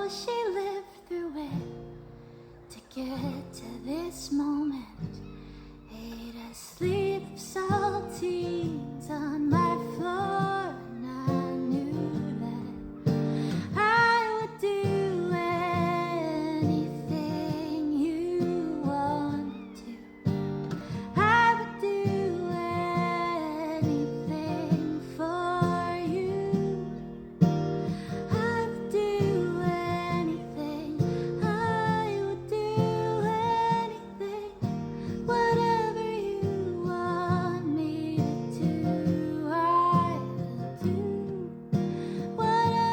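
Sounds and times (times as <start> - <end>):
acoustic guitar: 0.0 - 42.9.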